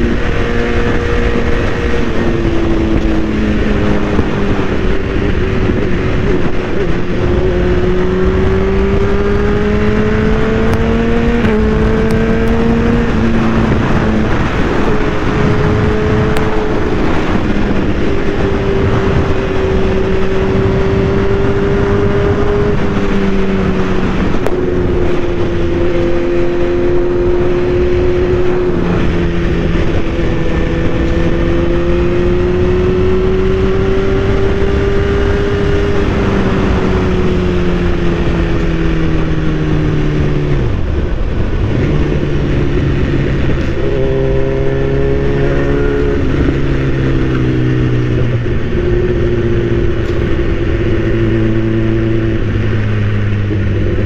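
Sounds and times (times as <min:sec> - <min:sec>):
motorcycle engine running: 0:00.0 - 0:54.0
wind rush: 0:00.0 - 0:54.0.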